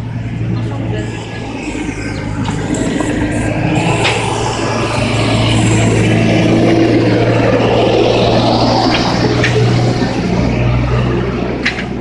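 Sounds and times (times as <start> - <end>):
dumper engine running: 0.0 - 12.0.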